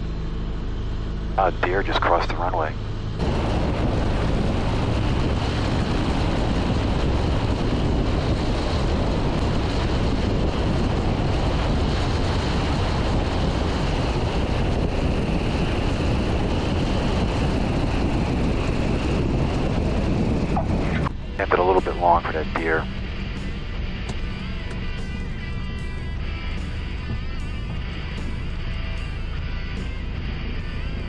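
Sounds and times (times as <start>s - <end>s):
aircraft engine drone: 0.0s - 31.0s
cockpit airflow: 0.9s - 31.0s.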